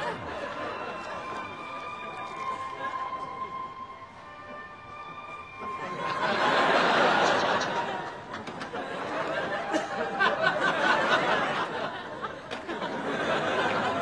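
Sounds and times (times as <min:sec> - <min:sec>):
audience laughing and chattering: 0:00.0 - 0:14.0.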